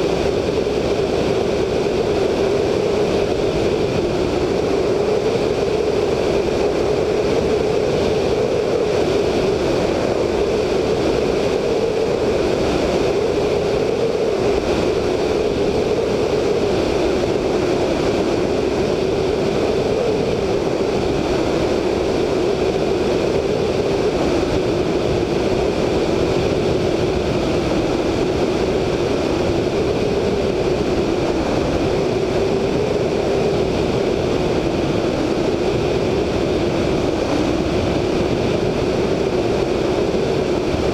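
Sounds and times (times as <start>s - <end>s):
radial aircraft engine running: 0.0s - 40.9s
wind rush on microphone: 0.0s - 40.9s.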